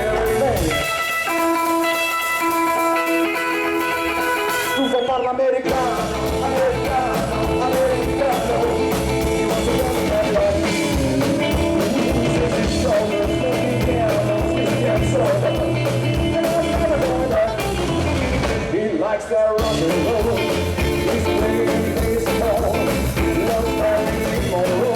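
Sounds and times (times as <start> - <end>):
person singing: 0.0 - 1.4, 3.0 - 24.9
rock band playing live: 0.0 - 18.9, 19.6 - 24.9.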